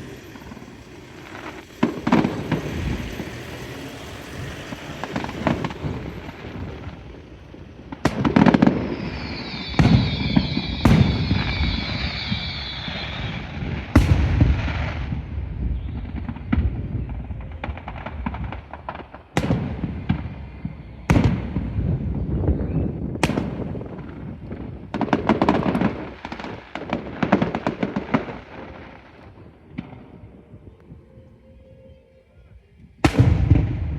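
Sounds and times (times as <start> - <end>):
fireworks bangs with echo: 0.0 - 30.7, 33.0 - 33.9
fireworks crackling hiss: 0.0 - 31.0.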